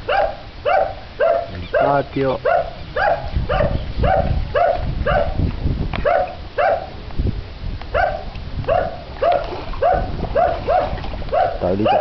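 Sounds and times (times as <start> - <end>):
dog barking: 0.1 - 5.4, 6.0 - 6.9, 7.9 - 12.0.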